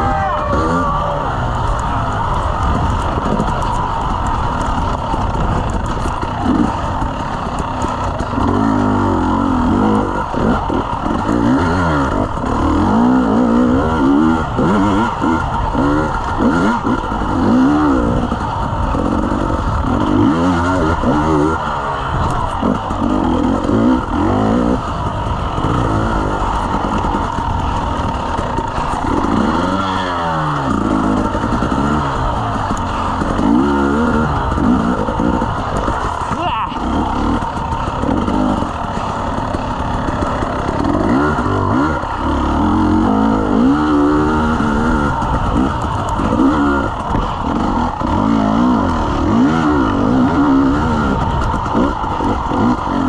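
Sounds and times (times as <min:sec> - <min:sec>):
dirt bike engine revving: 0:00.0 - 0:53.0
steady rushing noise: 0:00.0 - 0:53.0.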